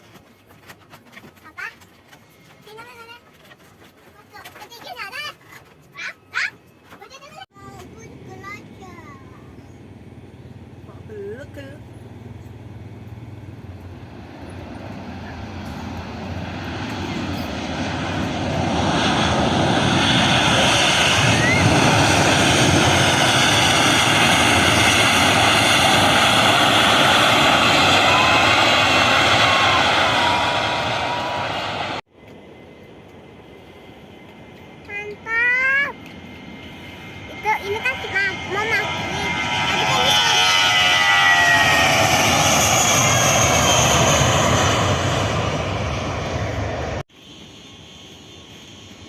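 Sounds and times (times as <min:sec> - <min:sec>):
jet engines roaring: 0:07.6 - 0:49.0
high engine whine: 0:07.7 - 0:49.0.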